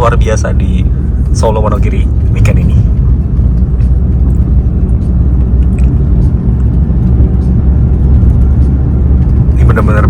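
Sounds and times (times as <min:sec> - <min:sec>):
car driving noise low rumble: 0:00.0 - 0:10.0.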